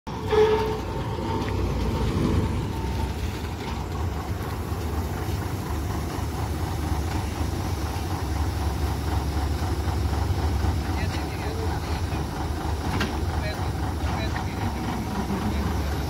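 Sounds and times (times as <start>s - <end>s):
diesel engine rumbling: 0.1s - 16.0s.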